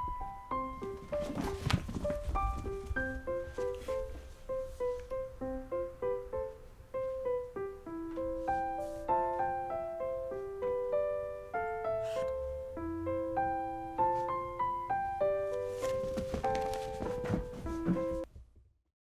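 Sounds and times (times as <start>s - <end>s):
gentle piano melody: 0.0s - 18.3s.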